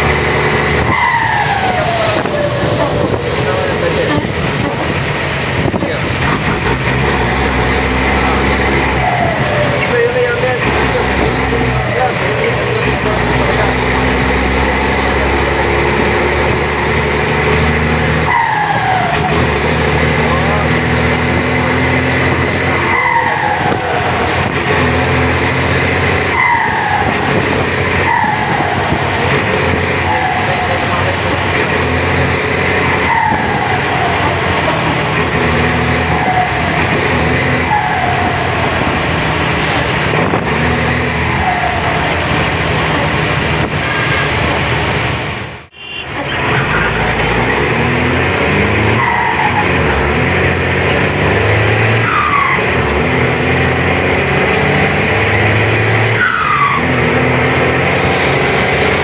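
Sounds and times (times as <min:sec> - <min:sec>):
turbocharger whistling: 0:00.0 - 0:44.4, 0:45.7 - 0:59.0
bus diesel engine running: 0:00.0 - 0:59.0.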